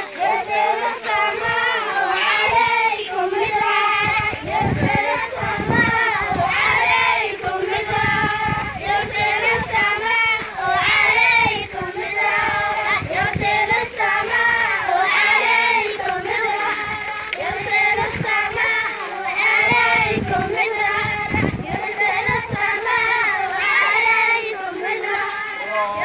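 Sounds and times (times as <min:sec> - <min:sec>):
children chanting: 0:00.0 - 0:26.0.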